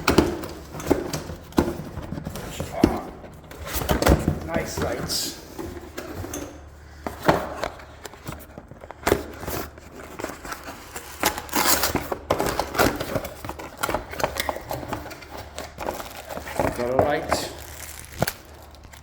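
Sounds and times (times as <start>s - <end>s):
crinkling: 0.0s - 19.0s.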